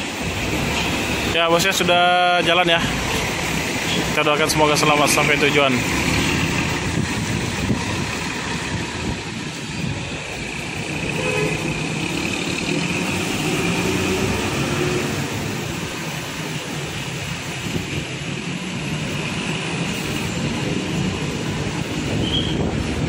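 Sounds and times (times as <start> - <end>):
diesel bus engine: 0.0 - 23.0
road traffic: 0.0 - 23.0.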